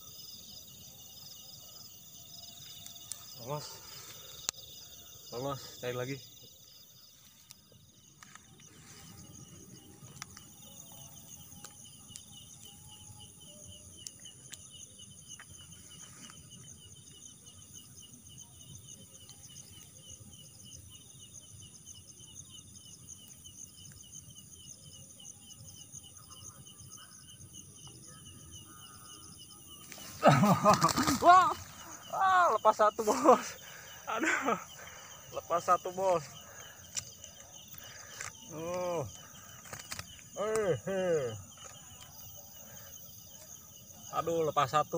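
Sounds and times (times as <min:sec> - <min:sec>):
crickets and insects trilling: 0:00.0 - 0:44.9
fast pulsing insect trill: 0:00.0 - 0:44.9.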